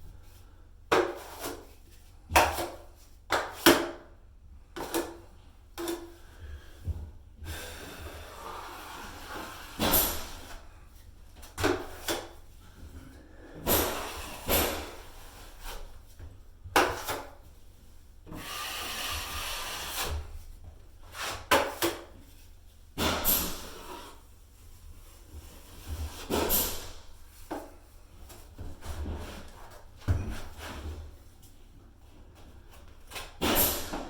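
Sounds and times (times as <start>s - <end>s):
drywall knife scraping compound: 0.3s - 4.0s, 4.7s - 10.8s, 11.4s - 16.2s, 18.2s - 31.4s.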